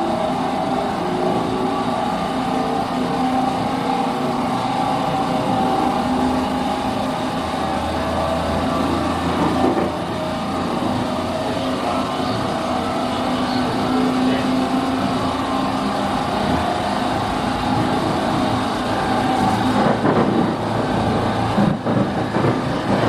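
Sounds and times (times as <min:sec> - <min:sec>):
electric train running noise: 0:00.0 - 0:23.0
loud tonal drone: 0:00.0 - 0:23.0.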